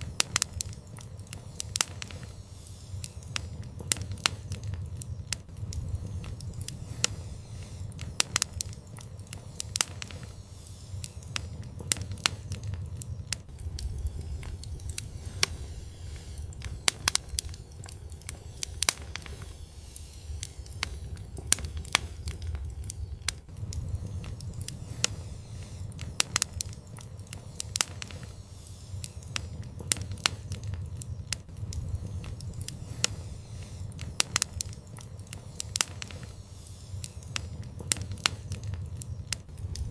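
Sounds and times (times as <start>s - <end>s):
steady low rumble: 0.0s - 39.9s
wood fire crackling and popping: 0.0s - 39.9s.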